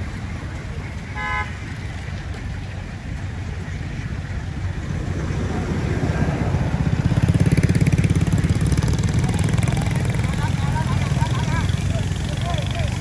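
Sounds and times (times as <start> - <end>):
motor engine running: 0.0 - 13.0.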